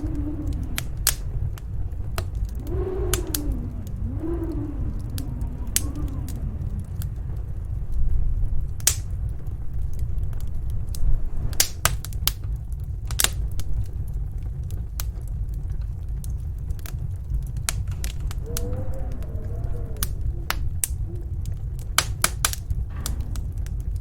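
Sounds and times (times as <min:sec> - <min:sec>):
snowstorm wind rumble: 0:00.0 - 0:24.0
wood fire crackling: 0:00.0 - 0:24.0.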